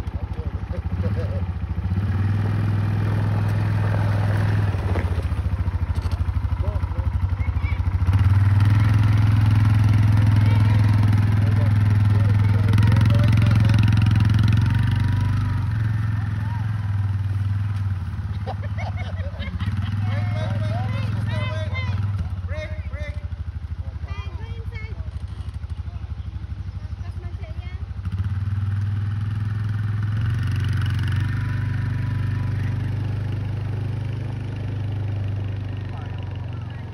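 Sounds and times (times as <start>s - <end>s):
quad bike engine: 0.0s - 36.9s.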